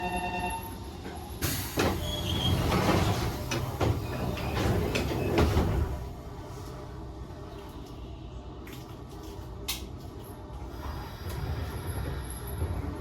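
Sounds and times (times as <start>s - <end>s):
low train rumble: 0.0s - 13.0s.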